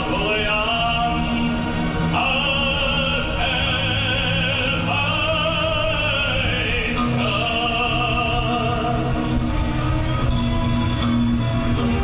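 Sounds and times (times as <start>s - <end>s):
operatic singing: 0.0s - 12.0s
orchestra playing: 0.0s - 12.0s.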